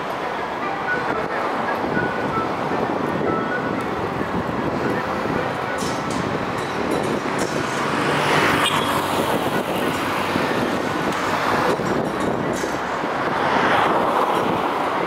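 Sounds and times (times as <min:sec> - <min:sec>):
passing road traffic: 0:00.0 - 0:15.0.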